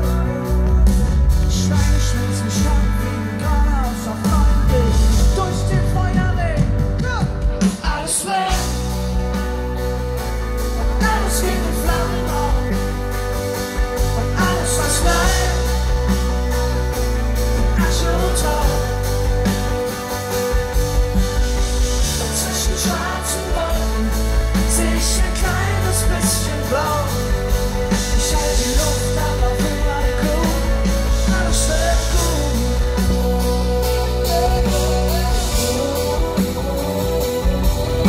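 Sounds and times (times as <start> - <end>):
person singing: 0.0 - 9.9, 10.6 - 38.0
live pop-rock band: 0.0 - 38.0.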